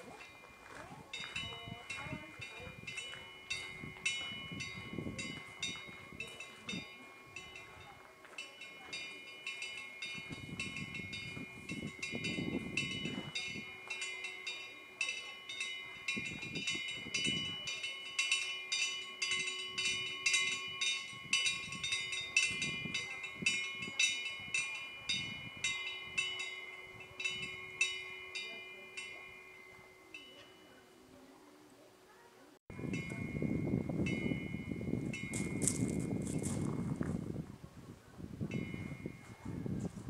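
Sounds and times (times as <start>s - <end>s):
wind bell clinking: 0.0s - 31.5s, 32.7s - 40.0s.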